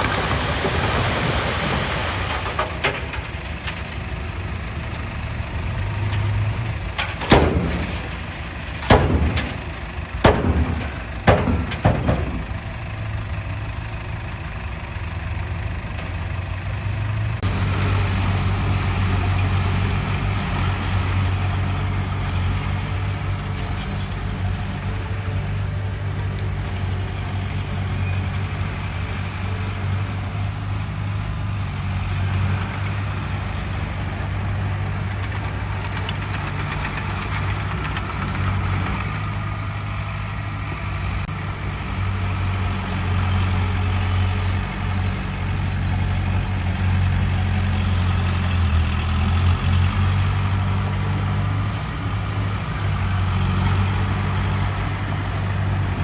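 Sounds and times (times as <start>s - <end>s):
diesel engine of earthmoving machine: 0.0s - 56.0s.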